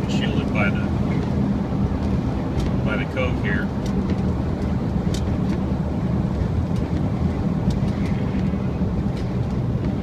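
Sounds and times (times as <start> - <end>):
car road and engine drone: 0.0 - 10.0.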